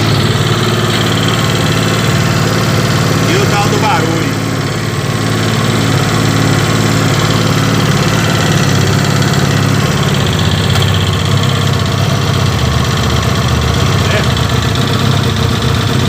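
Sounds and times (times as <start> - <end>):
motorcycle engine idling: 0.0 - 16.0
rapid engine ticking: 0.0 - 16.0.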